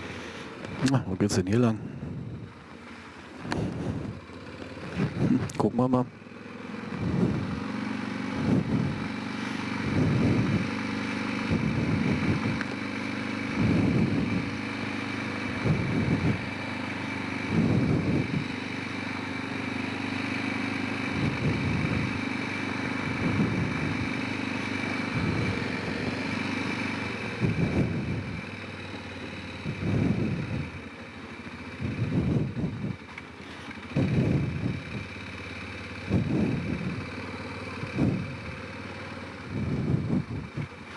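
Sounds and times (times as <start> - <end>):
atv engine with throttle surges: 0.0 - 40.9.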